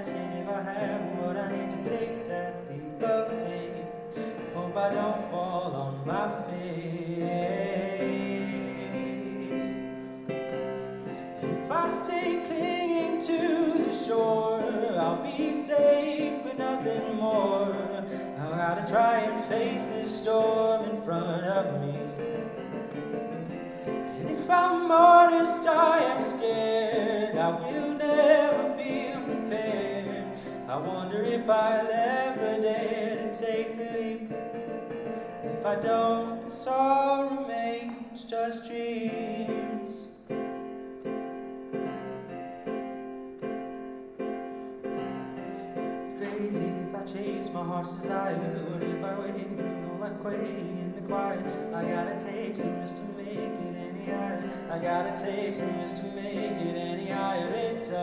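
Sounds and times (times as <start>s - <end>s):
digital keyboard playing: 0.0s - 36.6s, 38.8s - 58.0s
man singing: 0.0s - 40.5s, 44.8s - 58.0s.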